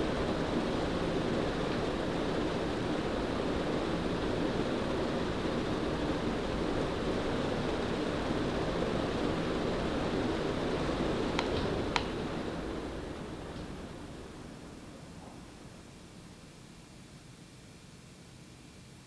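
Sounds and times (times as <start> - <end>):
ceiling fan air rush: 0.0 - 18.1.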